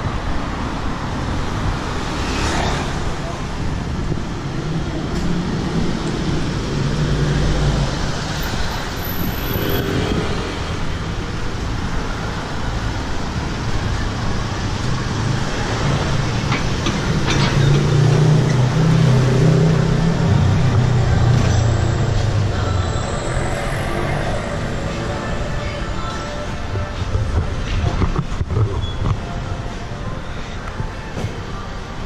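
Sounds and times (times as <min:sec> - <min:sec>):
vehicles driving past: 0:00.0 - 0:32.0.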